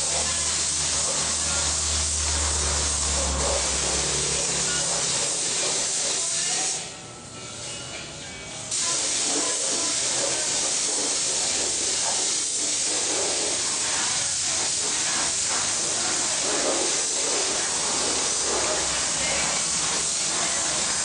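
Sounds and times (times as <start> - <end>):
compressed air hissing: 0.0 - 6.9, 8.7 - 21.0.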